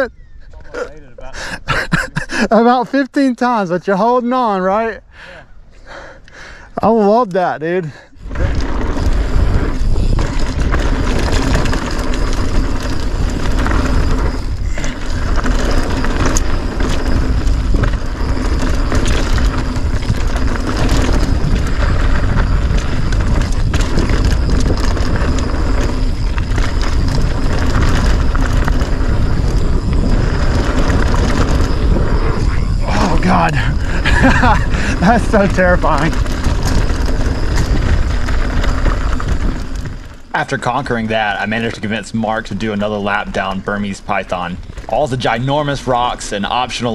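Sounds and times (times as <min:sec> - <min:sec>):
wind buffeting microphone: 0:00.0 - 0:02.8, 0:04.7 - 0:46.9
bike tyres on dirt: 0:00.0 - 0:46.9
bike rattling over bumps: 0:05.9 - 0:46.9.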